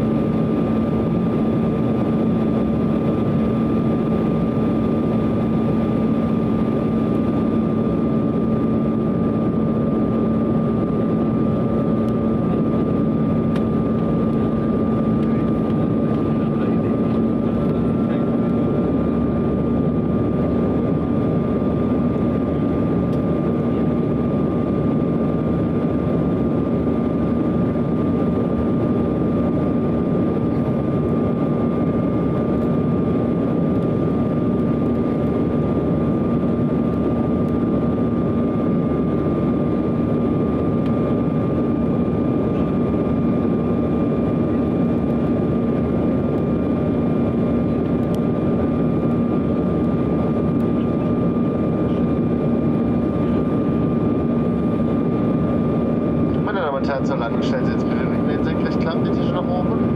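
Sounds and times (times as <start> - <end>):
constant low hum: 0.0 - 59.9
jet engines droning: 0.0 - 59.9.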